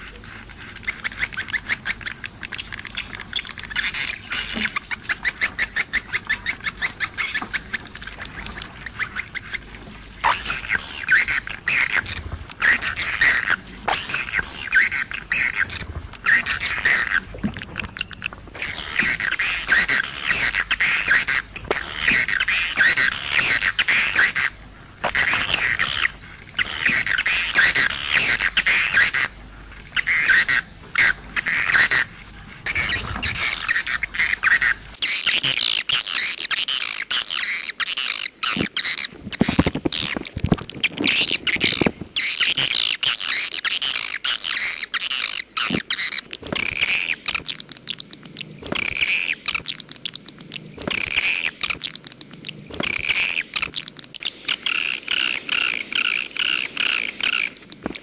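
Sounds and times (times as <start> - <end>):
swiftlets twittering chirps: 0.0 - 58.0.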